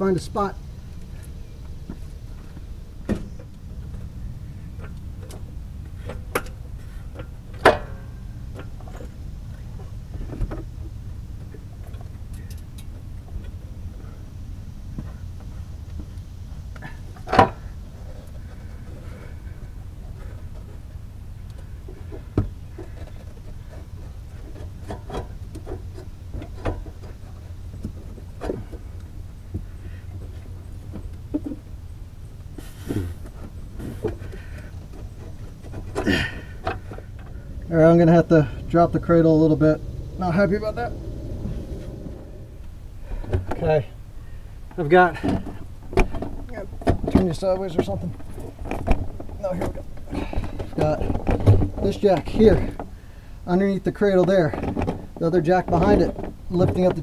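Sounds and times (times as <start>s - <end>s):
steady low rumble: 0.0s - 56.9s.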